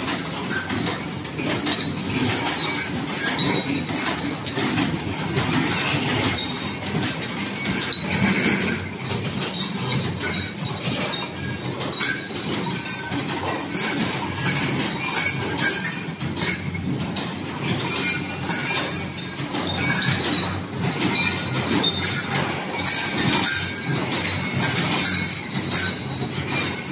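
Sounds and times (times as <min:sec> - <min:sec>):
machine clattering and clinking: 0:00.0 - 0:26.9.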